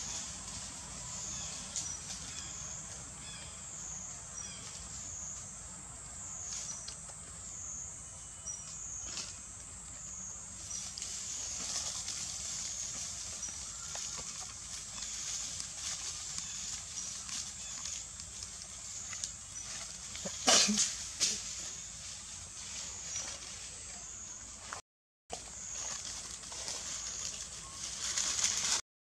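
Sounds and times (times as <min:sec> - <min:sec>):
rustling in dry leaves: 0:00.0 - 0:05.6, 0:10.4 - 0:24.8, 0:25.4 - 0:28.8.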